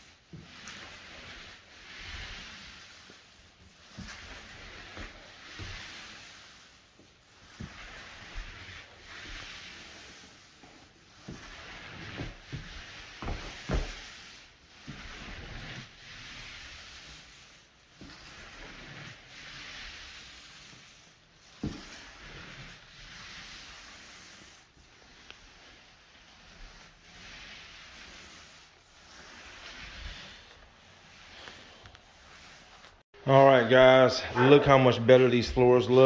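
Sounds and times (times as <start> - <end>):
floor applicator swishing on wood: 0.0 - 36.0.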